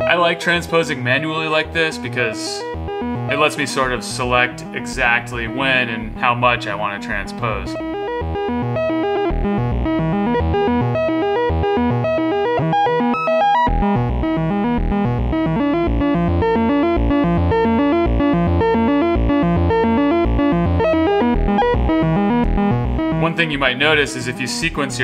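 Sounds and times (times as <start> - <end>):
fast sequenced synth melody: 0.3 - 25.0.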